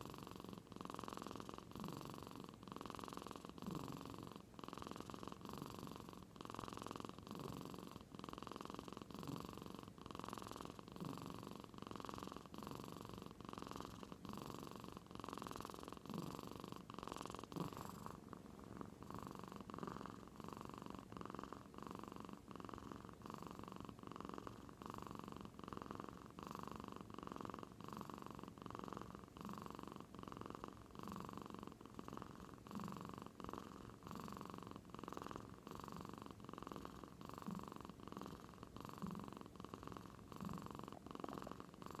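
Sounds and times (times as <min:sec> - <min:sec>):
cat snoring: 0:00.0 - 0:42.0.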